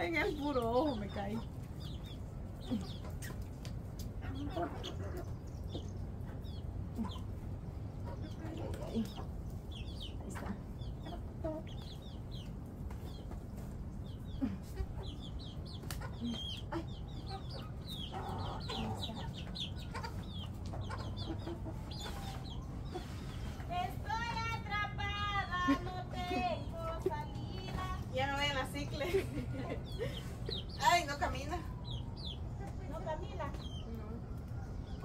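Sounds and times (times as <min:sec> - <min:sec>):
chickens clucking and chirping: 0:00.0 - 0:35.0.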